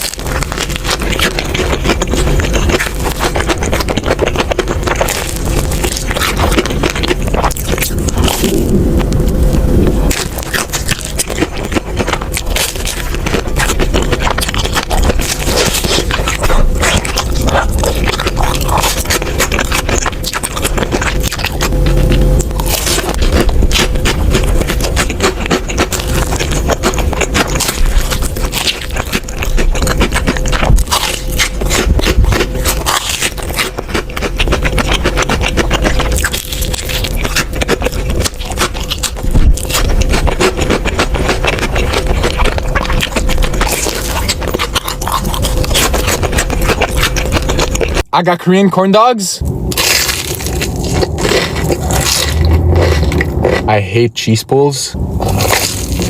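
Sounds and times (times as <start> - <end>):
crunchy chewing: 0.0 - 48.1, 49.4 - 56.0
faint steady hum: 0.0 - 56.0.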